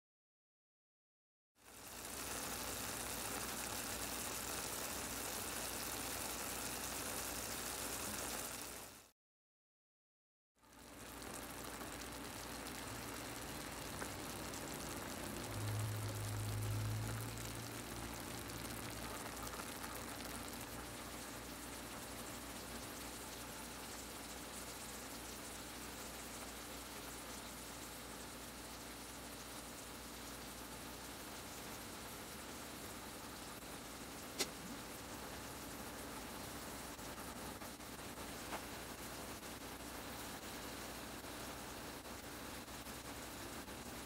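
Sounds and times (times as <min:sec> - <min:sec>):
food sizzling in a frying pan: 0:01.6 - 0:09.1, 0:10.6 - 0:44.0.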